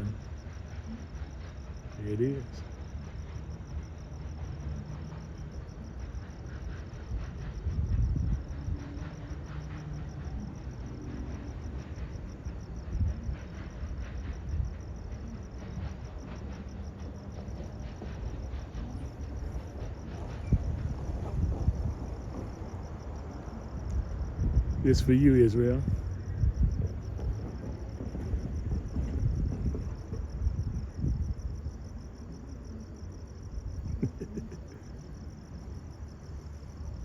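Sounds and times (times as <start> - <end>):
crickets chirping: 0.0 - 37.0
low rumble of passing train: 0.0 - 37.0.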